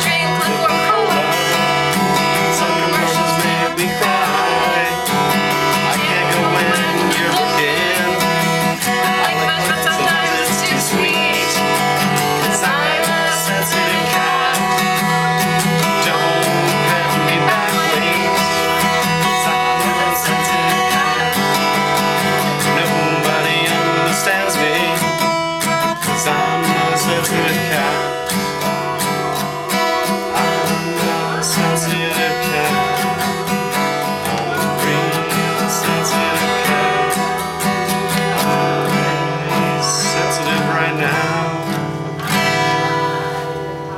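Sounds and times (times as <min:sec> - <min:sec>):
acoustic guitar strumming chords: 0:00.0 - 0:43.9.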